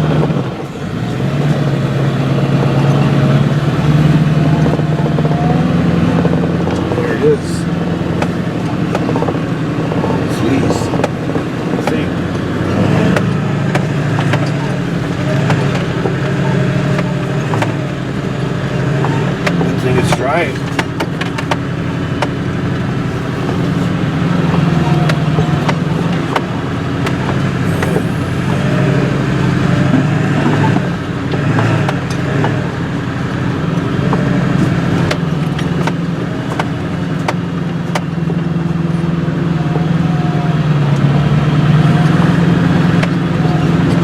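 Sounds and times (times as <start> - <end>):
knocks and rattles from bumps: 0.0 - 39.2
truck engine drone: 0.0 - 44.0.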